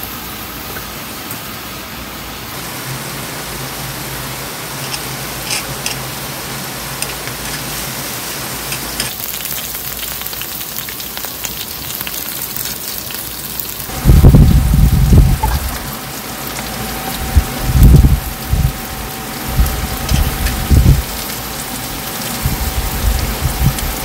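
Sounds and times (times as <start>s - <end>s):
food sizzling in a pan: 2.5s - 24.0s.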